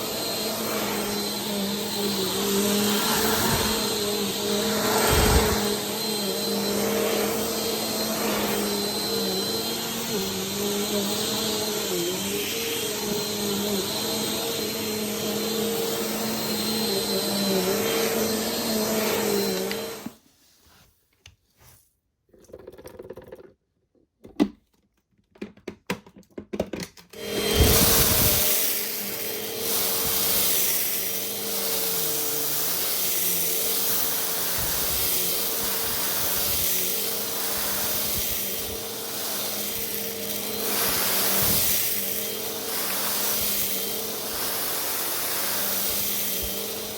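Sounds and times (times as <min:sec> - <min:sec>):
vacuum cleaner running: 0:00.0 - 0:20.2, 0:27.1 - 0:46.9.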